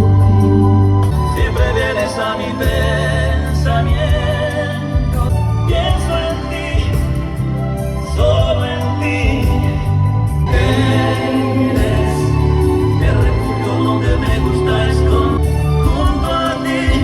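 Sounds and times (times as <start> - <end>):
heavy steady bass: 0.0 - 17.0
pop ballad over loudspeakers: 0.0 - 17.0.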